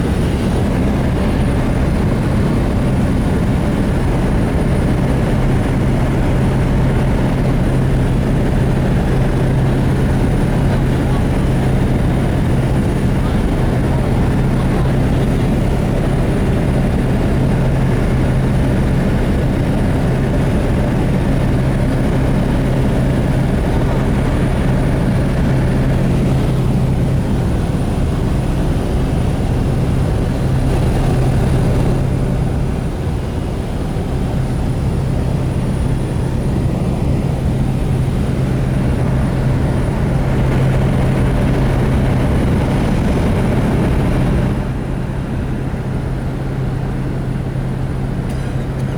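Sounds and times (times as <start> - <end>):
propeller aircraft engine drone: 0.0 - 48.9.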